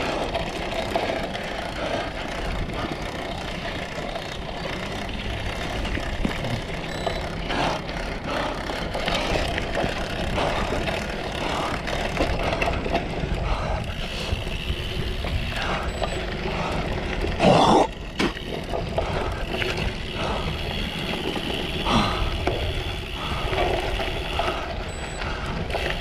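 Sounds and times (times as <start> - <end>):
bike rattling over rough ground: 0.0 - 26.0
wind and tyres rumbling: 0.0 - 26.0.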